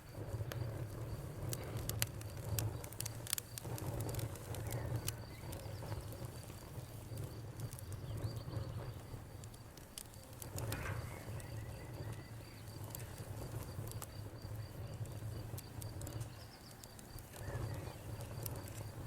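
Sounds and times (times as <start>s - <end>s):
cricket chirping: 0.0s - 19.0s
wood fire crackling: 0.0s - 19.0s.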